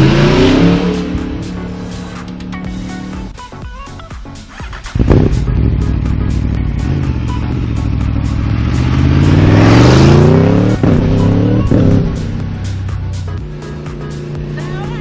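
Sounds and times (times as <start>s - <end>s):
motorcycle engine accelerating: 0.0s - 3.4s, 4.2s - 15.0s.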